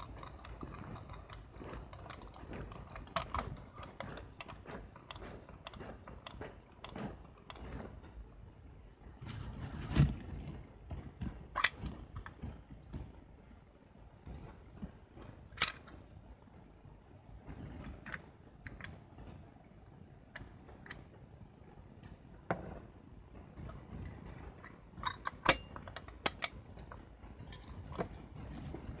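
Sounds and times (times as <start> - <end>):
soft rustle: 0.0 - 24.6, 26.6 - 29.0.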